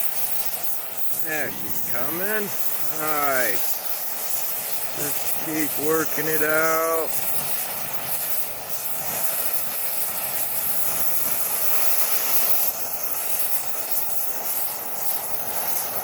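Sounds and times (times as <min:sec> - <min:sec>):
gas torch flame roaring: 0:00.0 - 0:16.0.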